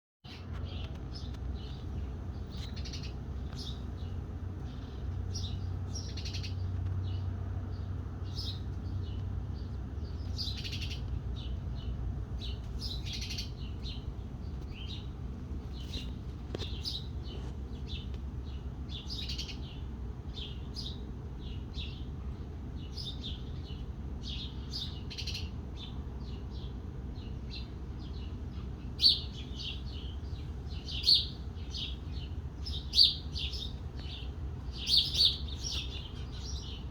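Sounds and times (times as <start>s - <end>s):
birds chirping: 0.3s - 36.9s
low background rumble: 0.3s - 36.9s.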